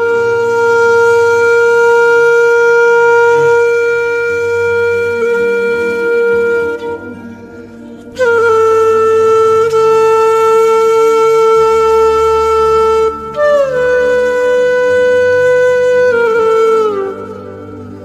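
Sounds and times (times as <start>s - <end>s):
faint low accompaniment: 0.0s - 18.0s
wind instrument long notes: 0.0s - 18.0s.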